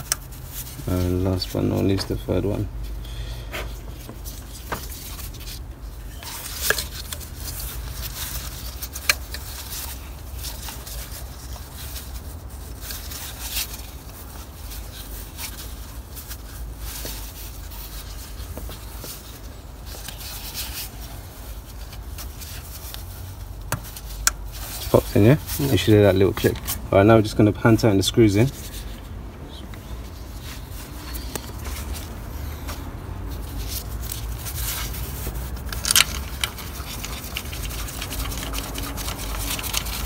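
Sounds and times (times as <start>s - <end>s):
gloved hands rubbing: 0.0s - 40.0s.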